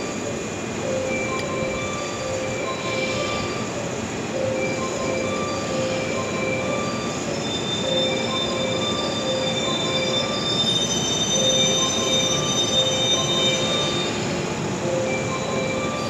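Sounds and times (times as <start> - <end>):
train brakes squealing: 0.0 - 16.0
train wheels rolling: 0.0 - 16.0.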